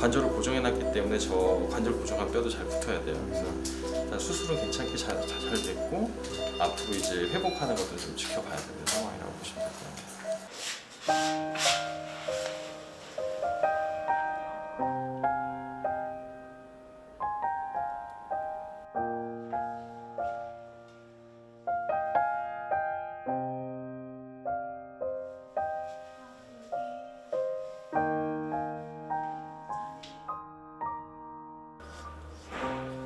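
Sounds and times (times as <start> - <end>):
slow piano melody: 0.0 - 33.0.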